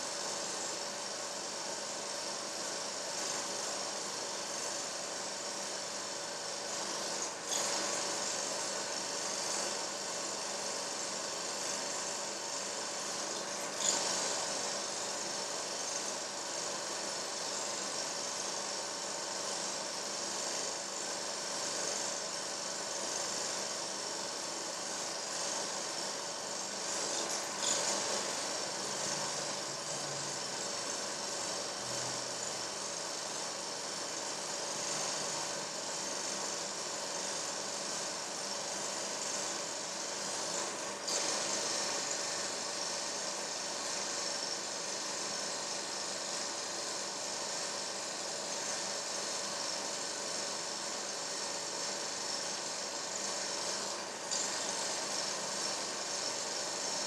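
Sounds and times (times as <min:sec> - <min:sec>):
mechanical whirring and hiss: 0:00.0 - 0:57.0.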